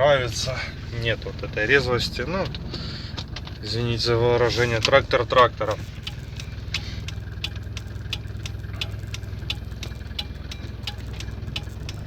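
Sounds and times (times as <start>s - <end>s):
diesel engine idling: 0.0s - 12.0s
even light ticking: 0.2s - 12.0s.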